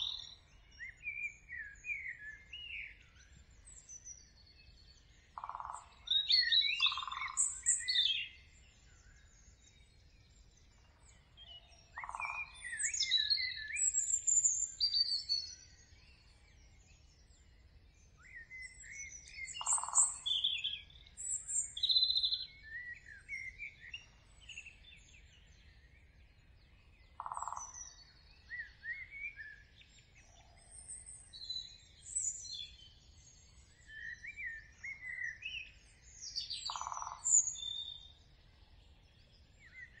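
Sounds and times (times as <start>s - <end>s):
birds singing and chirping: 0.0s - 40.0s
low noisy bird calls: 0.0s - 40.0s.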